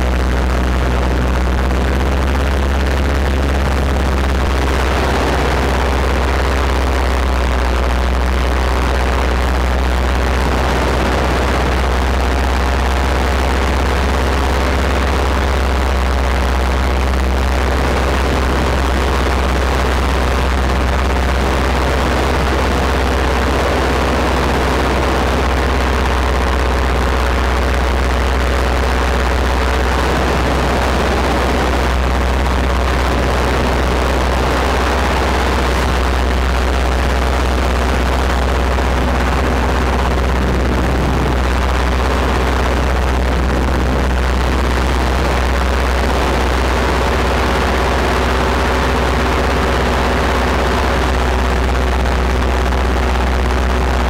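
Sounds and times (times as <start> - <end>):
paramotor engine running: 0.0 - 54.0
wind noise on microphone: 0.0 - 54.0.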